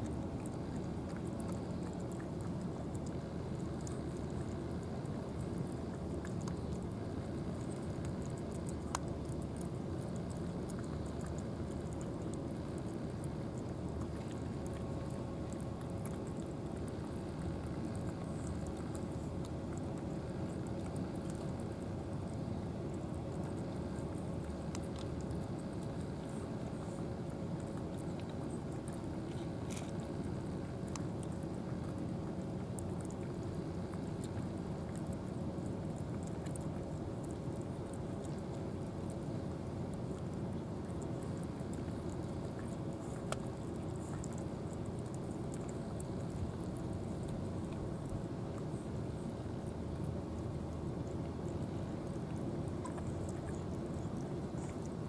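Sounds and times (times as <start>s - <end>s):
cats chewing and lapping: 0.0s - 55.0s
low background rumble: 0.0s - 55.0s.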